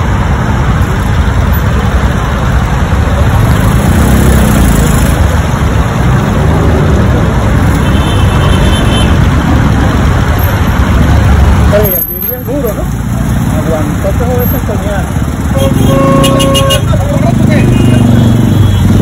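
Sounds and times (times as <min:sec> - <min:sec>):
passing cars rumble: 0:00.0 - 0:19.0.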